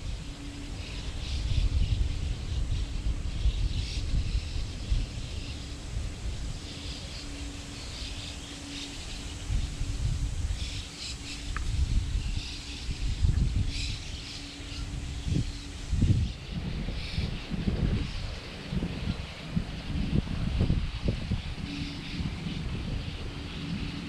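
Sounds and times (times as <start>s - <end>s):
faint steady hum: 0.0s - 24.0s
wind rumble on microphone: 0.0s - 24.0s
birds chirping: 0.1s - 24.0s.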